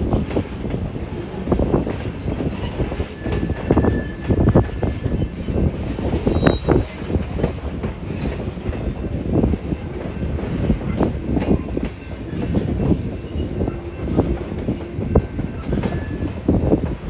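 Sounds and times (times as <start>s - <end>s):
low rumble of train: 0.0s - 17.0s
train wheels clacking over rail joints: 0.0s - 17.0s.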